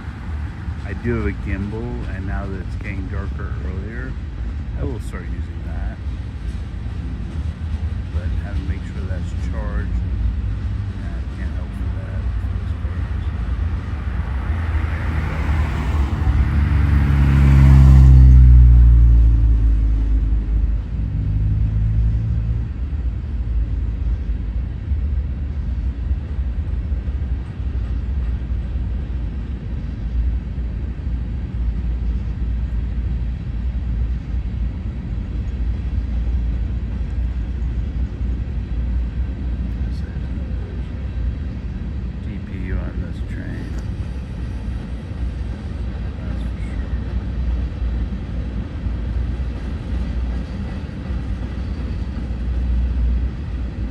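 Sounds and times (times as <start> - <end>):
diesel locomotive passing: 0.0 - 53.9
train rolling rumble: 0.0 - 53.9.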